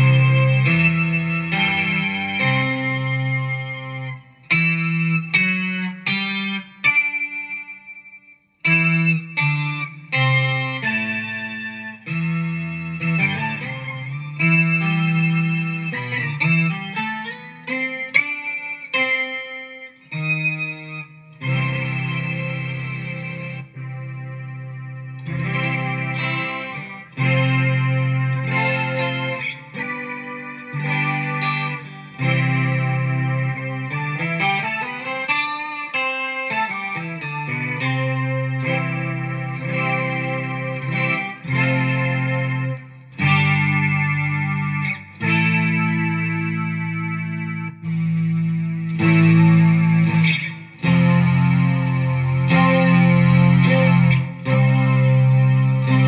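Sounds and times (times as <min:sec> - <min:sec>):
synth guitar chords: 0:00.0 - 0:56.0.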